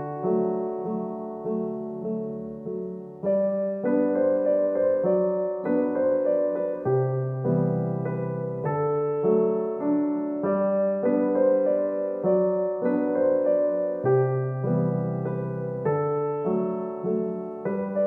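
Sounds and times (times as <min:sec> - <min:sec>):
gentle piano tune: 0:00.0 - 0:18.0.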